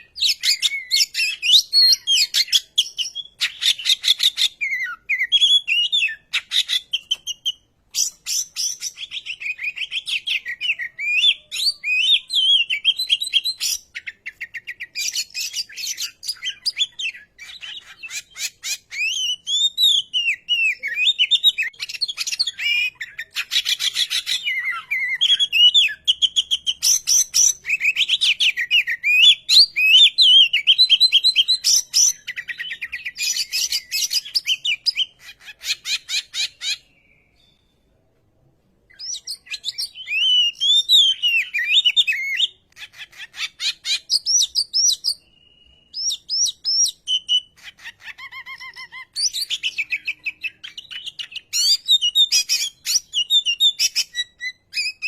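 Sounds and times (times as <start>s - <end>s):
bird singing varied song: 0.0s - 38.0s, 38.8s - 55.0s.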